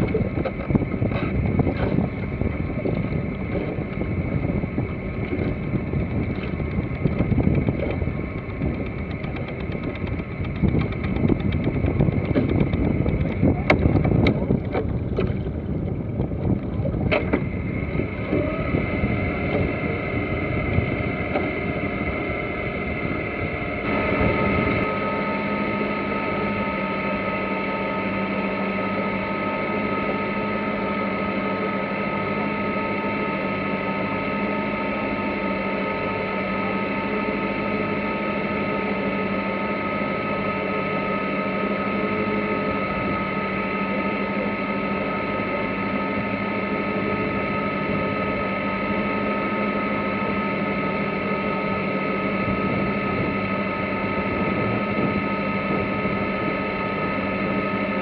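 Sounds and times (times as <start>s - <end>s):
diesel engine drone: 0.0s - 58.0s
water noise: 0.0s - 58.0s
wind: 0.0s - 58.0s.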